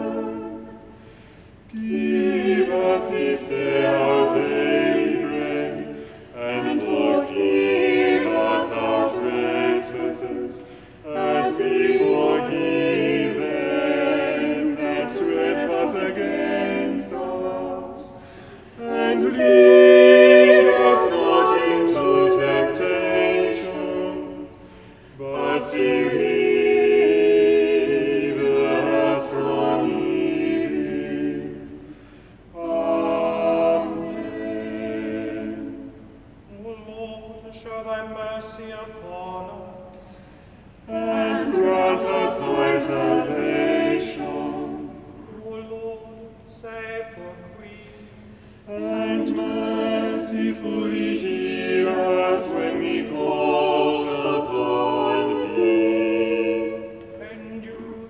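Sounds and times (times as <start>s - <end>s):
choir singing unaccompanied: 0.0s - 39.9s, 40.8s - 48.0s, 48.6s - 58.0s.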